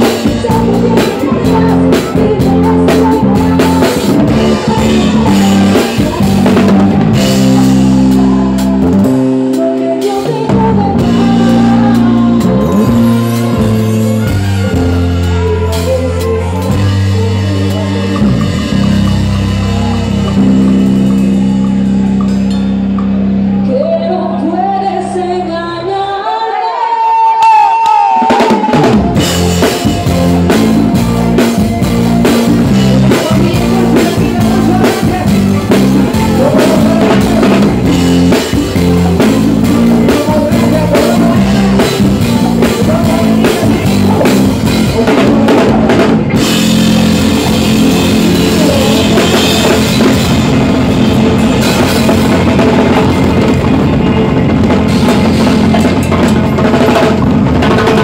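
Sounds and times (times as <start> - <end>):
bass drum: 0.0 - 9.3, 10.5 - 23.6, 28.4 - 58.0
drum kit playing: 0.0 - 23.8, 28.0 - 58.0
bass notes: 0.0 - 26.0, 28.6 - 58.0
live band music: 0.0 - 26.0, 27.5 - 58.0.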